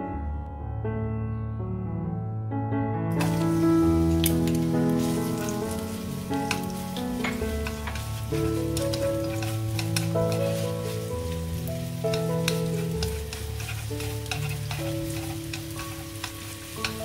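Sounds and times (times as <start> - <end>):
background music: 0.0 - 17.0
chopsticks stirring in wok: 3.2 - 17.0
shallots sizzling in hot oil: 3.2 - 17.0.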